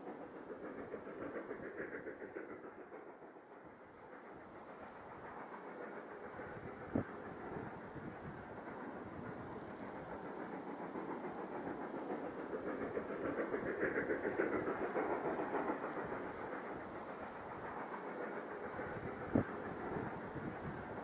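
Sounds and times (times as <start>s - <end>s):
distant steam train rumbling: 0.0s - 21.0s.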